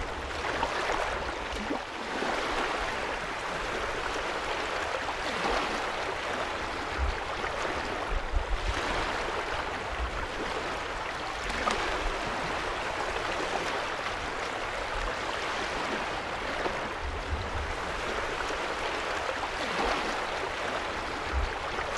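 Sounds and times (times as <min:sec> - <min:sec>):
small waves lapping on shore: 0:00.0 - 0:21.9.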